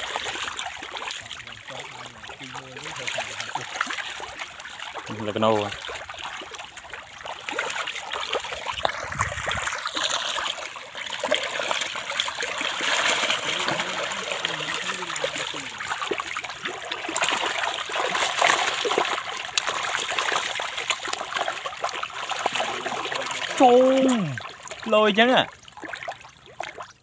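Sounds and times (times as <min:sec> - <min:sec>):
fish splashing in shallow water: 0:00.0 - 0:27.0.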